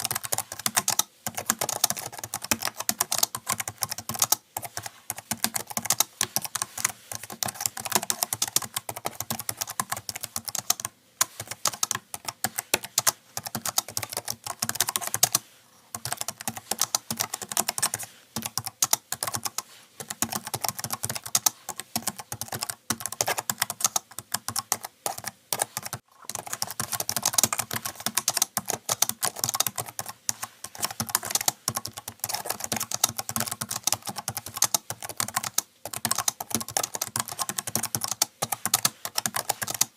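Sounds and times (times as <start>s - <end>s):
fast typing on keyboard: 0.0s - 15.4s, 16.0s - 39.9s.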